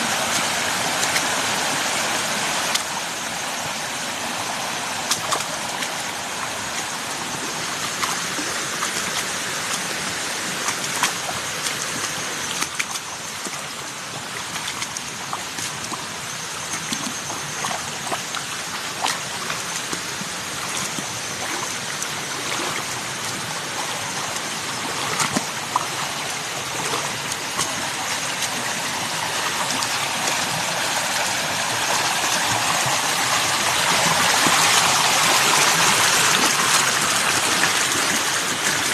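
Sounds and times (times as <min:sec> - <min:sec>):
small water splashes: 0:00.0 - 0:38.9
stream rushing: 0:00.0 - 0:38.9.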